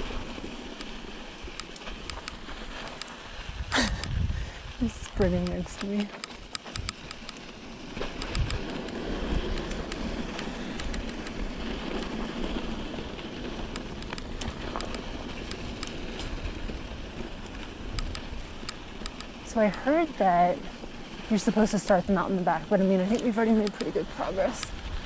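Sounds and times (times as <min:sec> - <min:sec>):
bike tyre and wind noise: 0:00.0 - 0:25.0
sharp ticks on camera: 0:00.7 - 0:04.3, 0:04.9 - 0:25.0.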